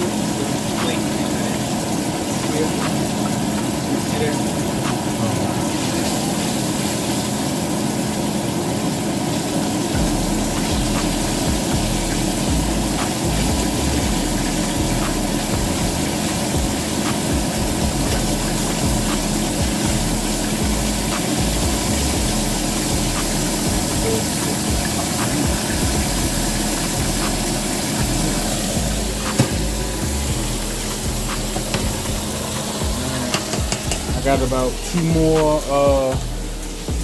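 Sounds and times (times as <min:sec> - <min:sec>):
chicken sizzling in hot oil: 0:00.0 - 0:37.0.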